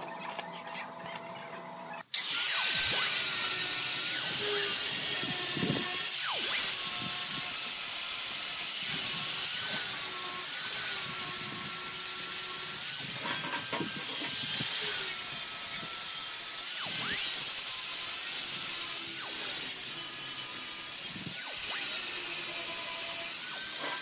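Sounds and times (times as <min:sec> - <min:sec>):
angle grinder grinding steel: 0:00.0 - 0:24.0.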